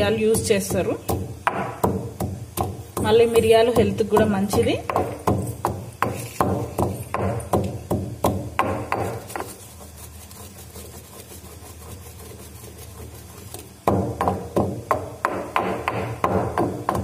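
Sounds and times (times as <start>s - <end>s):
pestle pounding in stone mortar: 0.0s - 17.0s.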